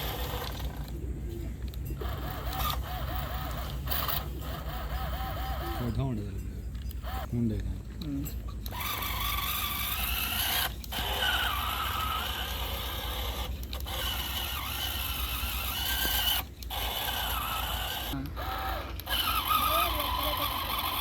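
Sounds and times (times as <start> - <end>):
small motor and gears whining: 0.0 - 21.0
steady low hum: 0.0 - 21.0.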